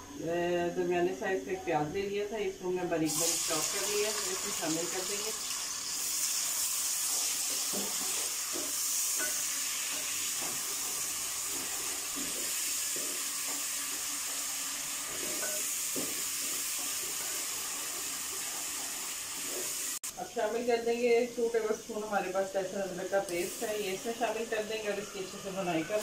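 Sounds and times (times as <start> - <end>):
onion sizzling in hot oil: 3.0 - 20.5, 21.3 - 26.0.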